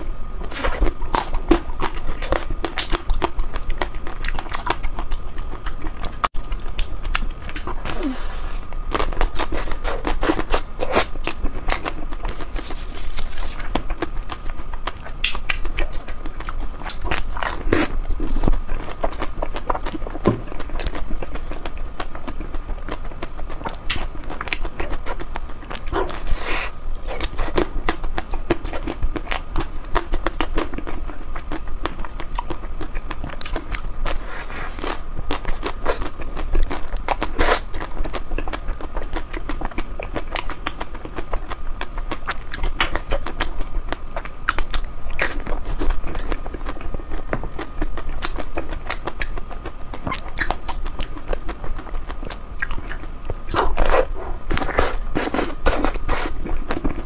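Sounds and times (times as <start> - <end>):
ice cream being chewed: 0.0 - 57.0.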